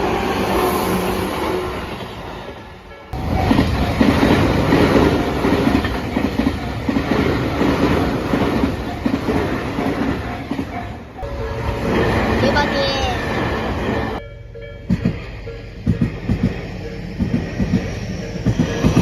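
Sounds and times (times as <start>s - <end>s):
train wheels clattering: 0.0s - 19.0s.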